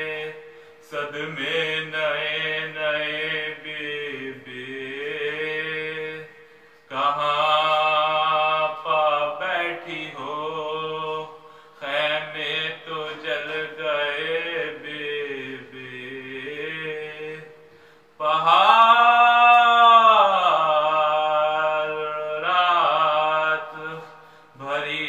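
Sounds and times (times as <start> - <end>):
man chanting mournful verse: 0.0 - 25.0.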